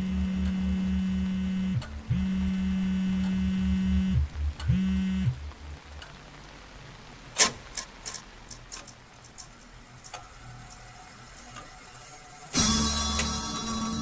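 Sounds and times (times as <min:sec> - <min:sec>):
low hiss: 0:00.0 - 0:14.0
faint irregular clicks and ticks: 0:00.2 - 0:14.0.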